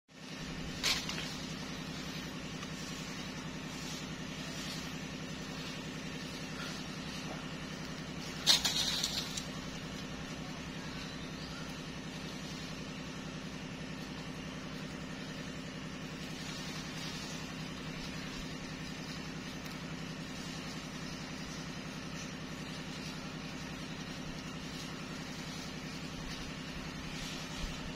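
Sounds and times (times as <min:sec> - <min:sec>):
low mechanical hum: 0:00.1 - 0:27.9.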